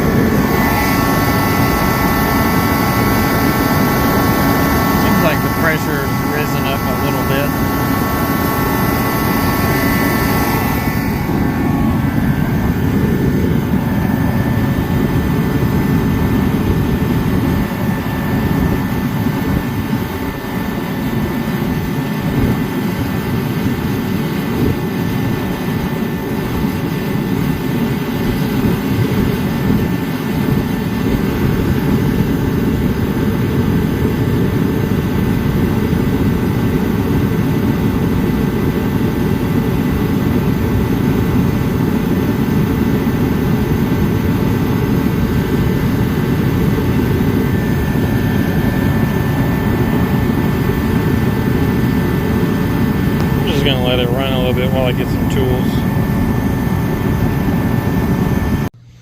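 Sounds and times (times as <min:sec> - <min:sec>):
forced-air heater jet-like rush: 0:00.0 - 0:59.0.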